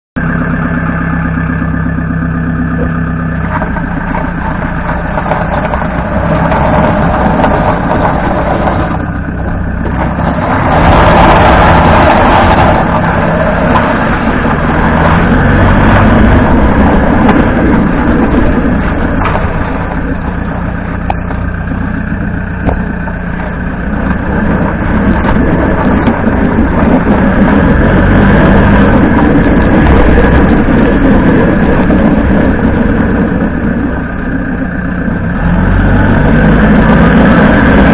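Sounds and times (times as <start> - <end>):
tyre road noise: 0.0 - 37.9
differential rattling: 0.2 - 35.2
van engine running: 0.2 - 37.9.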